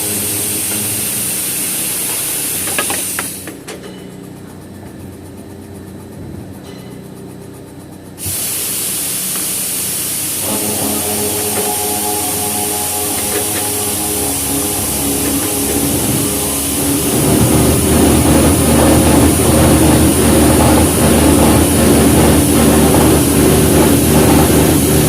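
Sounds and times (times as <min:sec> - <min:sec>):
steady hum tones: 0:00.0 - 0:03.2, 0:08.0 - 0:25.0
circular saw machine hissing: 0:00.0 - 0:03.6, 0:08.2 - 0:25.0.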